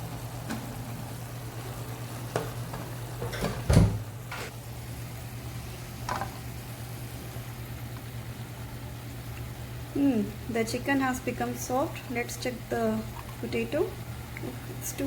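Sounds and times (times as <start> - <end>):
gravy simmering with hiss: 0.0 - 15.0.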